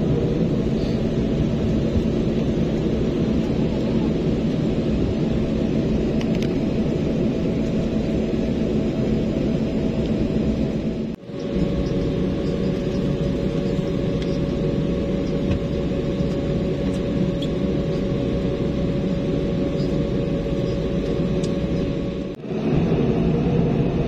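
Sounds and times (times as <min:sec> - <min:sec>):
jet engines idling in cabin: 0:00.0 - 0:24.0.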